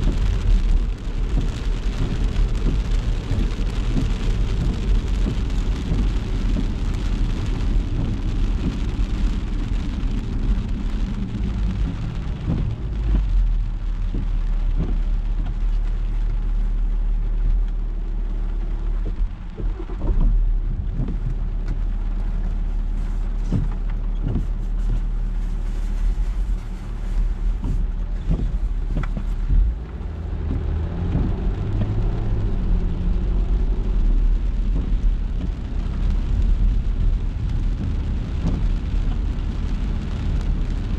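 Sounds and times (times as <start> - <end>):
rain and wet road hiss: 0.0 - 40.9
road and tyre rumble: 0.0 - 40.9.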